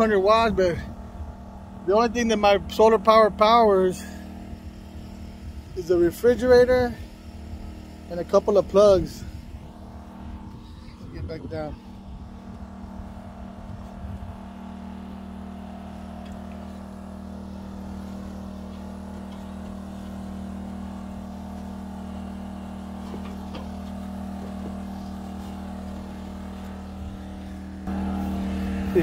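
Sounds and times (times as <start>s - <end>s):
engine running low hum: 0.0s - 29.0s.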